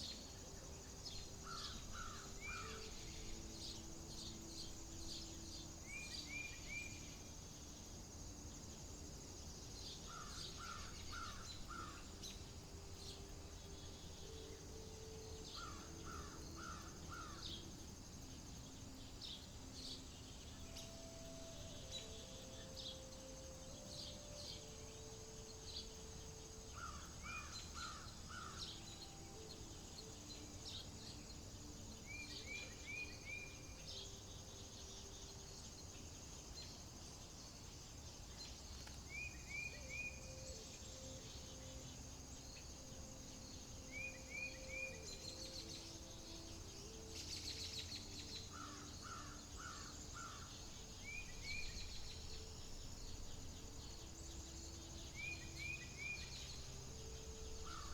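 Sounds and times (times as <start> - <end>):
birds chirping: 0.0 - 57.9
high insect drone: 0.0 - 57.9.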